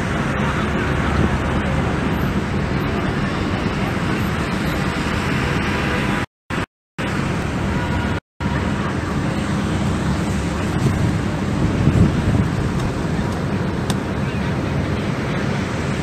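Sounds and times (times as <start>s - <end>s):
wind rumble on microphone: 0.0s - 6.3s, 7.0s - 16.0s
city traffic: 0.0s - 16.0s.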